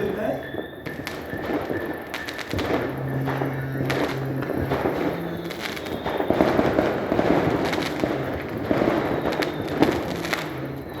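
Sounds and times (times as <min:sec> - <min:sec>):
fireworks crackling: 0:00.0 - 0:11.0
fireworks sharp bangs: 0:00.0 - 0:11.0.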